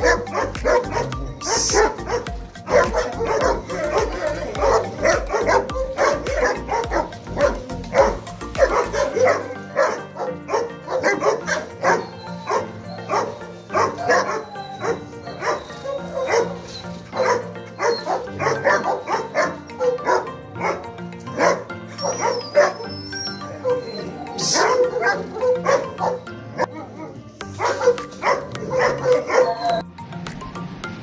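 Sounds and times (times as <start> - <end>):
dog barking: 0.0 - 29.8
background music with low beat: 0.0 - 31.0.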